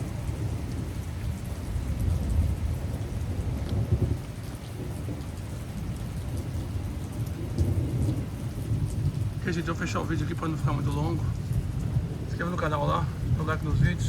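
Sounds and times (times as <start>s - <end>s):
heavy rain pouring: 0.0s - 14.0s
low rumble of thunder: 0.0s - 14.0s.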